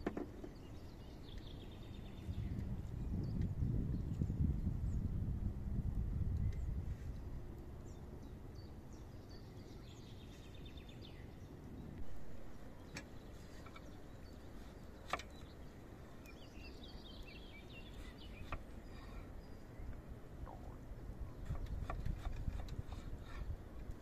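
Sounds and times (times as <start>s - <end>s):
small birds chirping: 0.0s - 5.3s, 6.2s - 24.0s.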